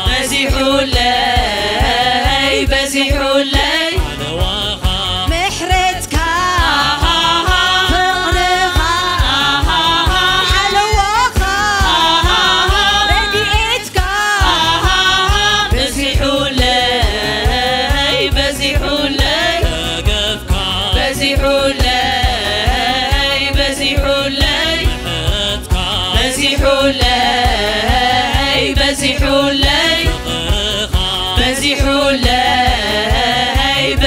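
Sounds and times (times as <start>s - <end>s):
person singing: 0.0s - 34.0s
steady drum beat: 0.0s - 34.0s.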